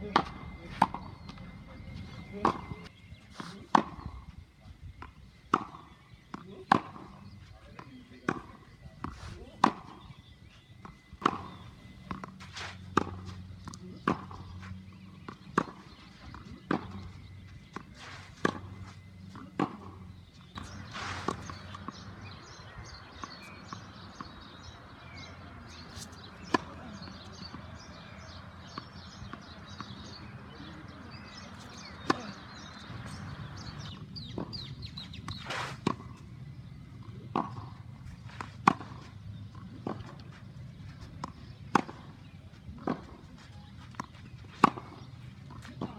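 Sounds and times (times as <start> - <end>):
birds chirping: 0.0 - 45.9
tennis balls struck by racquets: 0.0 - 45.9.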